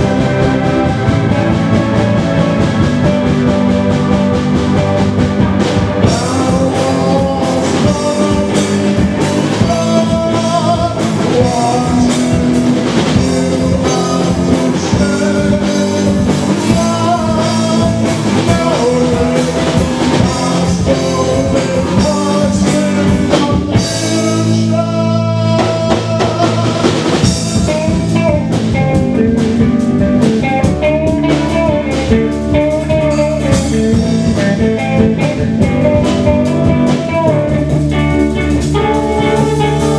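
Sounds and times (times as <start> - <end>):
lead guitar line: 0.0 - 39.9
rock band playing: 0.0 - 39.9.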